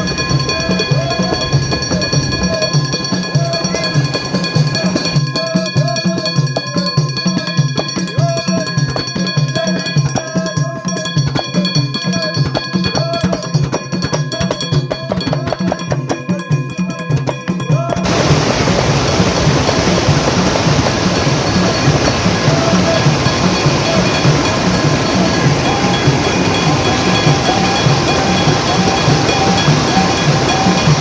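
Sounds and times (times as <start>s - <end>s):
background music with drum beat: 0.0s - 31.0s.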